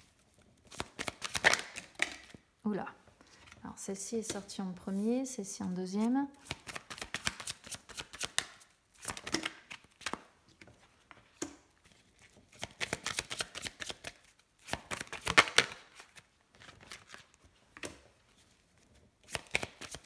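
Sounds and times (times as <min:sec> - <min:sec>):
cards being shuffled: 0:00.1 - 0:02.4, 0:06.0 - 0:20.0.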